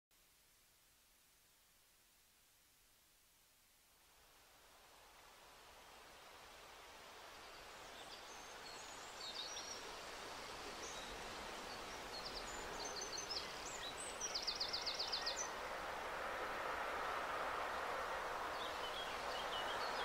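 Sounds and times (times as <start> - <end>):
background hiss: 0.1 - 20.0.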